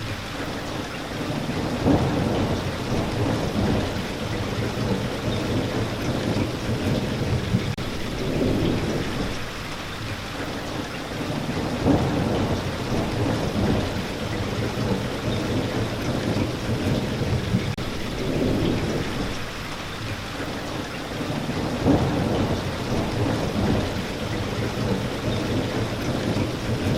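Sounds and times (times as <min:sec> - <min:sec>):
steady rain falling: 0:00.0 - 0:26.9
rolling thunder: 0:01.3 - 0:09.7, 0:11.3 - 0:19.8, 0:21.3 - 0:26.9.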